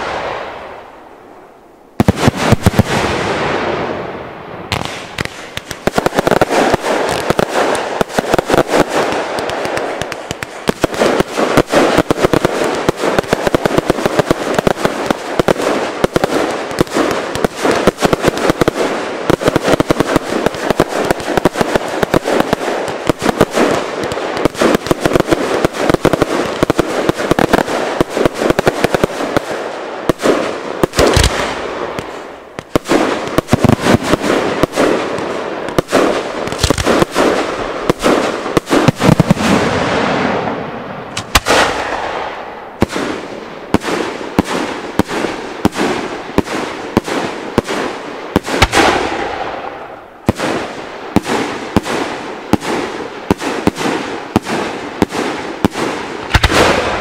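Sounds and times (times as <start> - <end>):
firework bangs: 0.0 - 1.0, 2.0 - 57.0.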